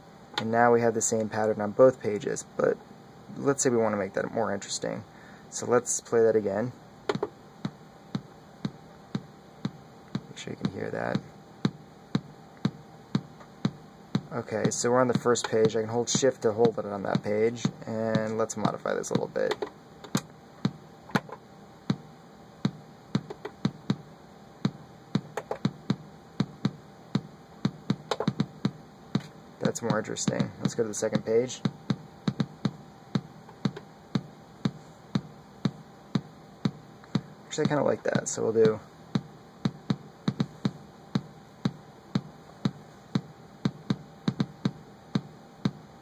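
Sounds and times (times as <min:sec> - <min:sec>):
electronic kick drum beat: 0:07.1 - 0:46.0.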